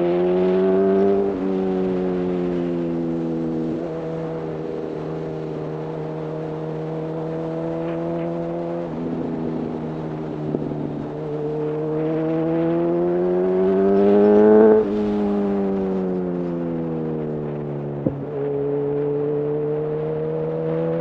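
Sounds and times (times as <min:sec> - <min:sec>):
motorcycle engine accelerating: 0:00.0 - 0:21.0
wind: 0:00.0 - 0:21.0.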